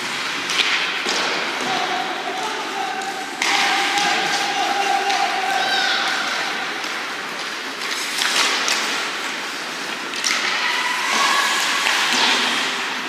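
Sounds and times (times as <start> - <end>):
hockey sticks and puck clacking: 0.0 - 13.0
skates scraping ice: 0.0 - 13.0.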